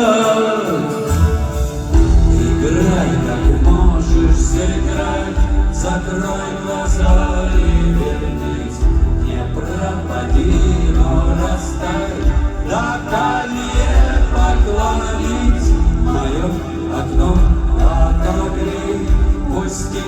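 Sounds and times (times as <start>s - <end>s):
live rock band playing: 0.0s - 20.0s
heavy low beat: 1.9s - 20.0s.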